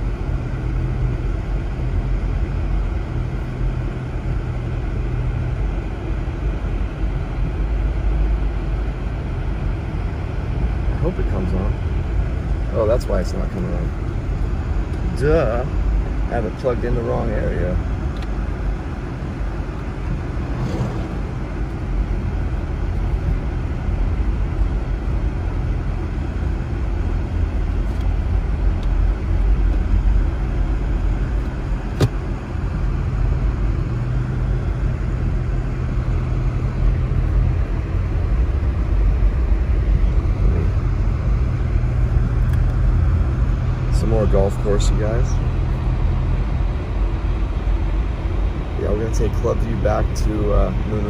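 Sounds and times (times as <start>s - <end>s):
low engine hum: 0.0s - 51.0s.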